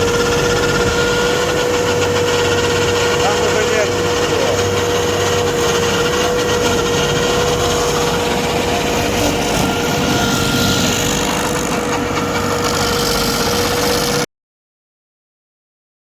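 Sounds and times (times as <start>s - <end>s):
rough grinding noise: 0.0s - 14.3s
stump grinder engine whining: 0.0s - 14.3s.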